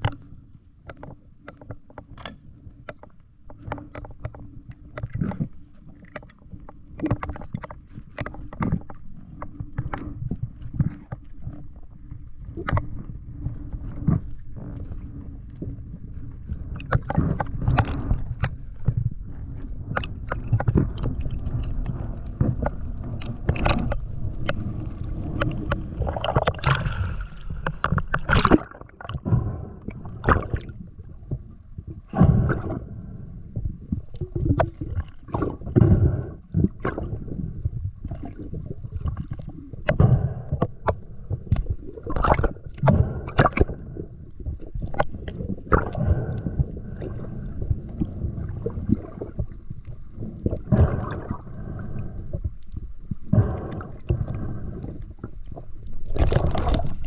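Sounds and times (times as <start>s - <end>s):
underwater rushing of water: 0.0s - 57.0s.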